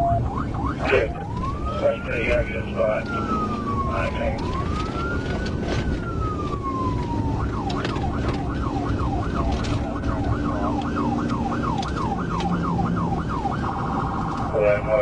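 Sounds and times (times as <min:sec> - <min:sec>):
car engine and tyres rumbling: 0:00.0 - 0:15.0
police siren wailing and yelping: 0:00.0 - 0:15.0.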